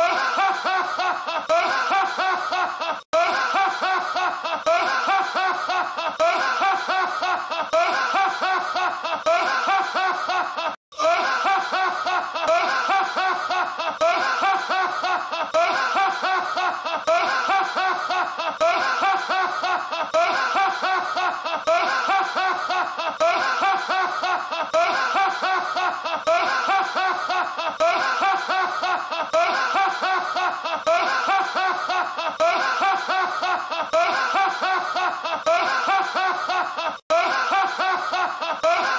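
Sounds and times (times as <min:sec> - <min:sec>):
man laughing heartily: 0:00.0 - 0:38.9.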